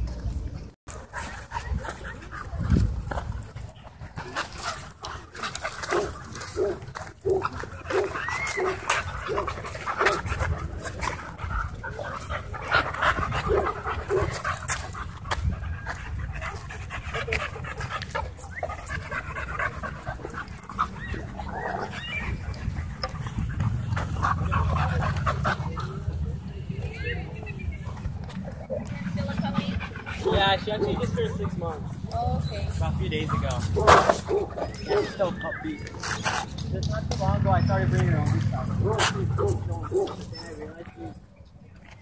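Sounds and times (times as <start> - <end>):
dogs panting: 0.9 - 41.3.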